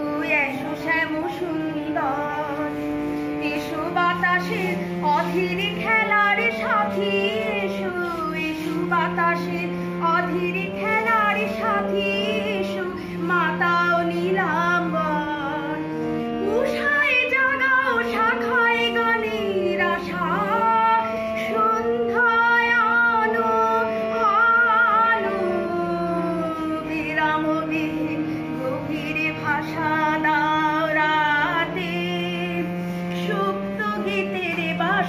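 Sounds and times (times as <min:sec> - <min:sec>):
woman singing: 0:00.0 - 0:35.0.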